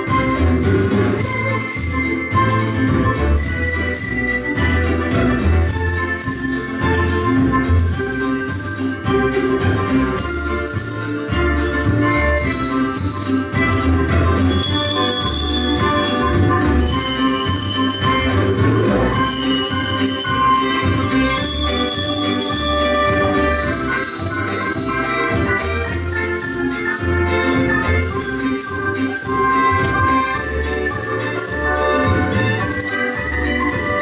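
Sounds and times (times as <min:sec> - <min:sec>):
accompaniment music with pulsing beat: 0:00.0 - 0:34.0
handbells playing a melody: 0:00.0 - 0:34.0.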